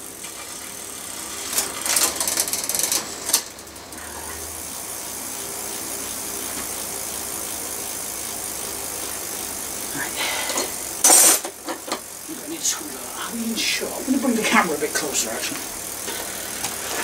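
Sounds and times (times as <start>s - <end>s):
bicycle wheel whirring: 0.0s - 17.0s
bike chain and freewheel clicking: 0.0s - 17.0s.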